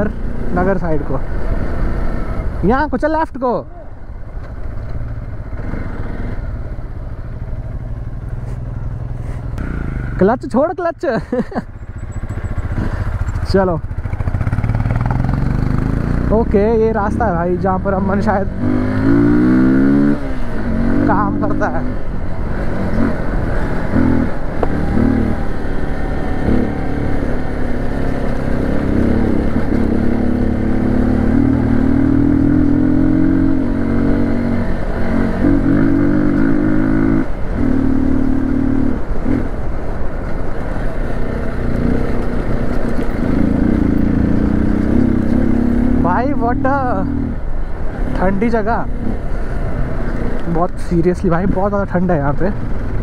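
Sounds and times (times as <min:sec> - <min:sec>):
motorcycle engine running: 0:03.7 - 0:53.0.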